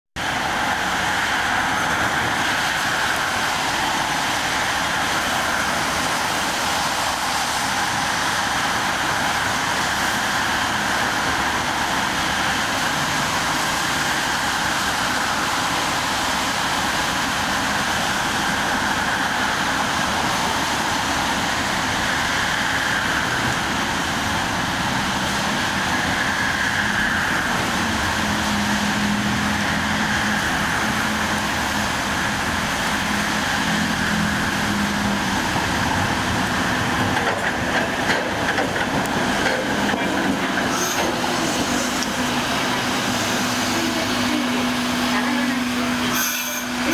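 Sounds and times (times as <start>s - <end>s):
tram approaching: 0.1s - 46.9s
cars passing on wet road: 0.2s - 46.9s
tyres hissing on wet asphalt: 0.2s - 46.9s.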